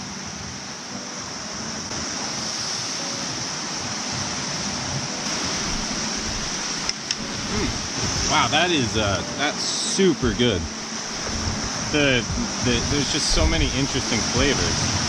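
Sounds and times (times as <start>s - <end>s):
surf washing against rocks: 0.0s - 15.0s.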